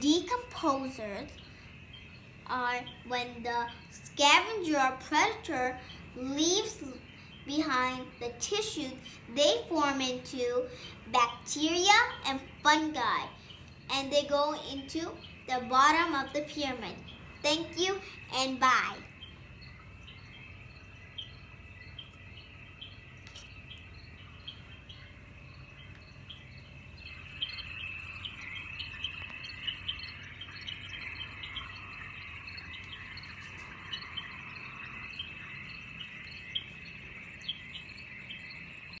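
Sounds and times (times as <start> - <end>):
birds chirping: 0.0 - 39.0
insect trill with ticks: 0.0 - 39.0.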